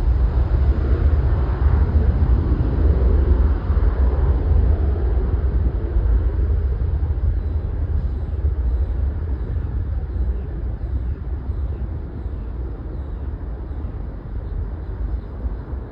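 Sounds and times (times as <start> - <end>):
jet engines roaring: 0.0 - 15.9.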